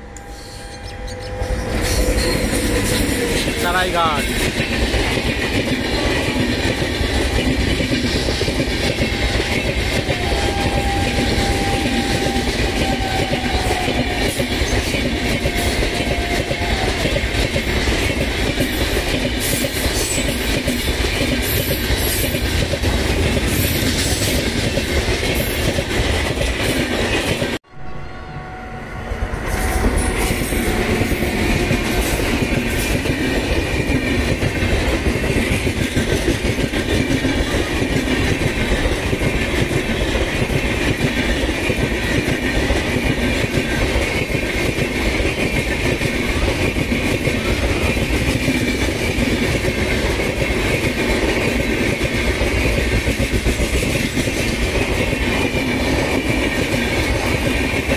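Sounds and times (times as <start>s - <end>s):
train rushing past: 0.0s - 57.9s.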